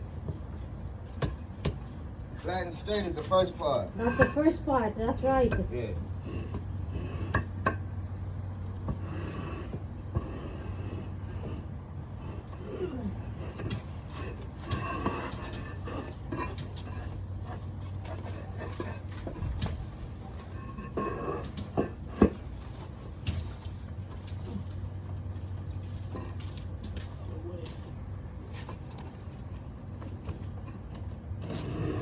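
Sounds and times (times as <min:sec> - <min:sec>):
pavers and tools knocking: 0:00.2 - 0:07.9, 0:08.8 - 0:11.6, 0:12.2 - 0:27.9.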